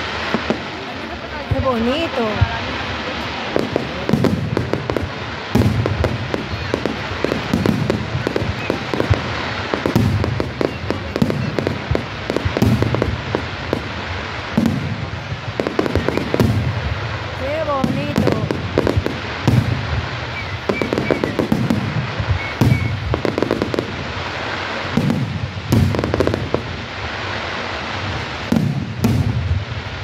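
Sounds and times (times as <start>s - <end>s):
deep firework booms: 0.0s - 30.0s
fireworks bangs and crackling: 0.0s - 30.0s.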